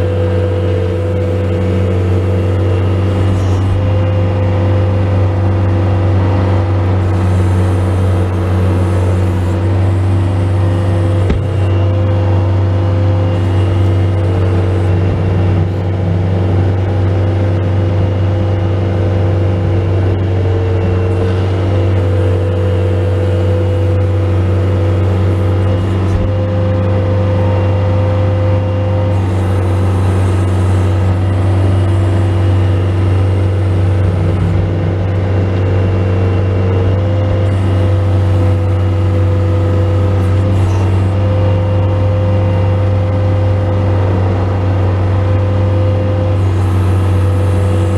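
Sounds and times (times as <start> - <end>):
diesel engine running: 0.0 - 47.9
high-pitched whine: 0.0 - 47.9.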